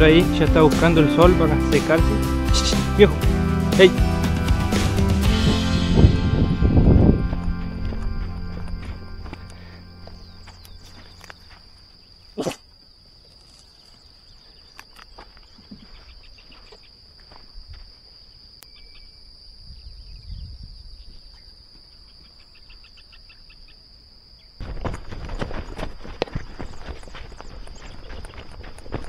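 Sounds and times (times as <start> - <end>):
high-pitched insect drone: 0.0 - 12.5, 13.2 - 29.0.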